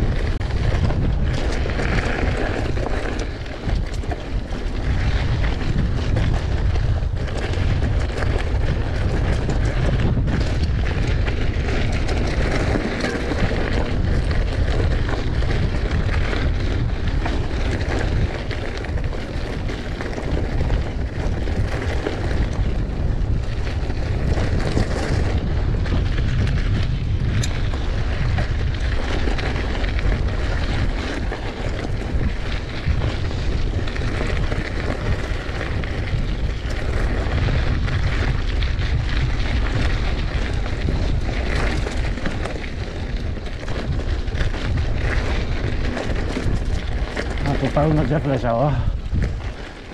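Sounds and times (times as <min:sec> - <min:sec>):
bike clicks and knocks: 0:00.0 - 0:49.9
bike tyres rolling on dirt: 0:00.0 - 0:49.9
wind buffeting microphone: 0:00.0 - 0:49.9.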